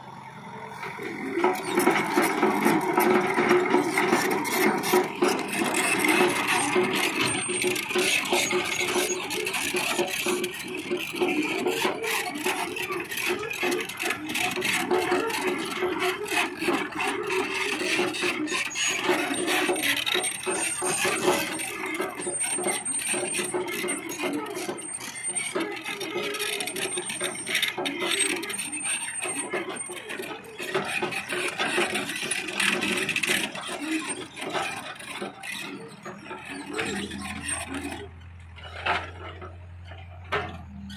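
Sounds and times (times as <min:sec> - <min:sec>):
excavator engine drone: 0:00.0 - 0:40.9
rattling and scraping: 0:00.8 - 0:40.9.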